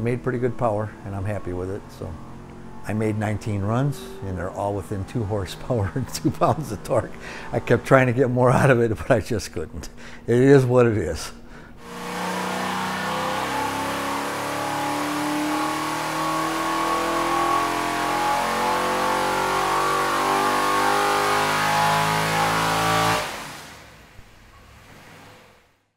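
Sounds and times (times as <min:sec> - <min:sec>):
engine running: 0:00.0 - 0:08.6, 0:11.8 - 0:25.4.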